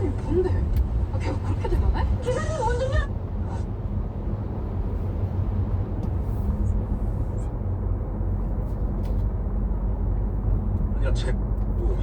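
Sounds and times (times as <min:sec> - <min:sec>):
car engine: 0:00.0 - 0:12.0
tyre road noise: 0:00.0 - 0:12.0.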